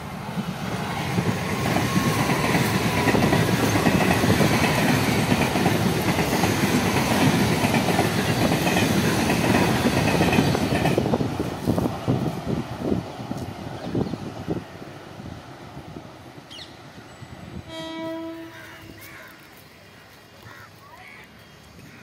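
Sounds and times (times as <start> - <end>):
train wheels running on track: 0.0 - 22.0.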